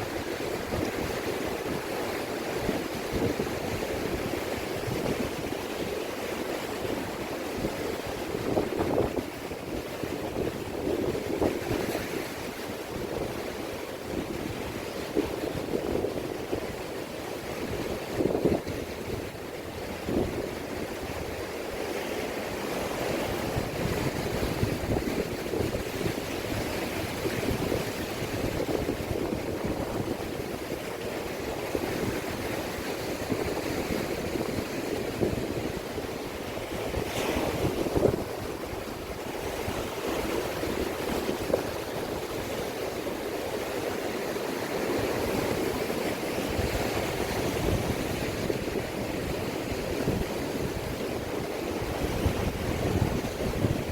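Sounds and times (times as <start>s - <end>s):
waves washing against rocks: 0.0s - 53.9s
wind: 0.0s - 53.9s.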